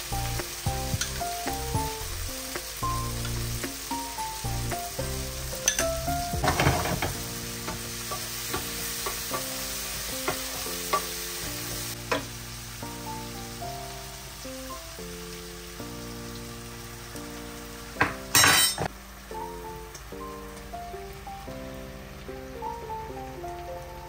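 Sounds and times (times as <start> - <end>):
food sizzling in a frying pan: 0.0 - 24.0
soft background music: 0.0 - 24.0.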